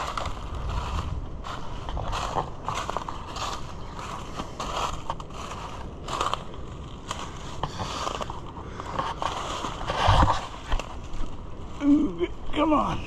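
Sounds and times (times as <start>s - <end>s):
footsteps crunching through wet leaves: 0.0s - 12.2s
wind rumble on microphone: 0.0s - 13.0s.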